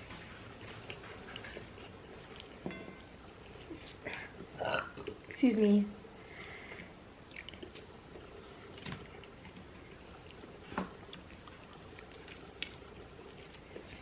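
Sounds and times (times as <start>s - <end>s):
quiet chewing: 0.0s - 14.0s.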